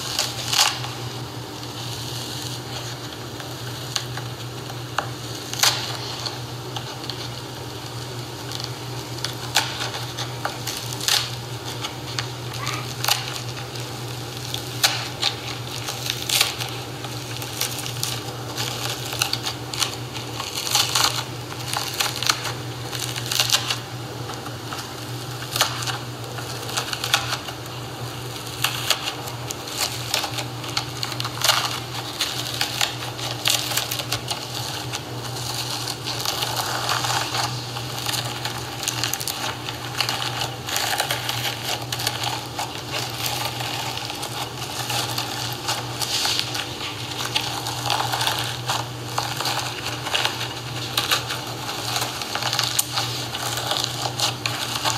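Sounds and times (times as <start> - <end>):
slime crust crunching and crackling: 0.0 - 54.9
steady low hum: 0.0 - 54.9.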